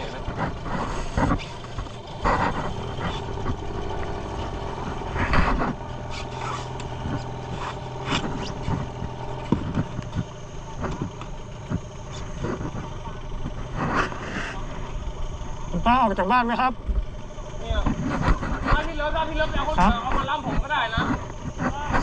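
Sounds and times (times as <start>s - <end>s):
small boat engine running: 0.0s - 22.0s.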